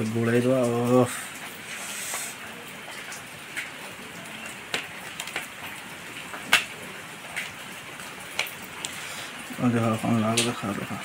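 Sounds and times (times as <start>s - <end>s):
raindrop taps: 0.0s - 11.0s
steady rain hiss: 0.0s - 11.0s.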